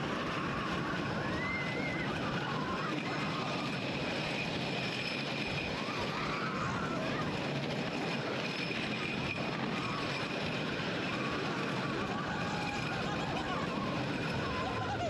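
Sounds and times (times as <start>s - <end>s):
faint voices: 0.0s - 15.0s
roller coaster rushing and rumbling: 0.0s - 15.0s.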